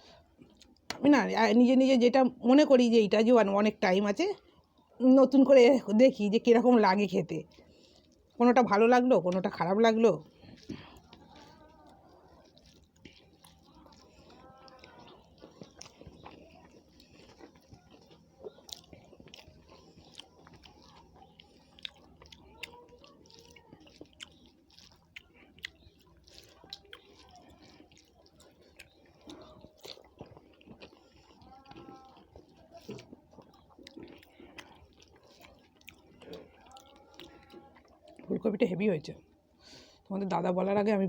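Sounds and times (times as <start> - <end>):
close-up chewing and mouth sounds: 0.0 - 41.0.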